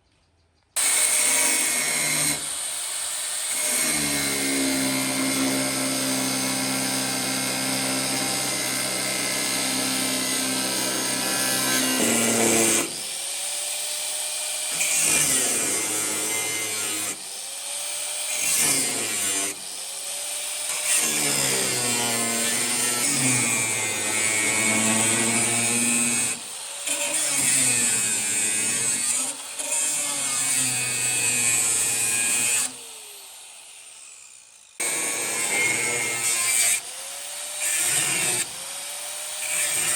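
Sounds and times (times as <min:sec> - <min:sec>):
electric power tool on metal: 0:00.8 - 0:39.9.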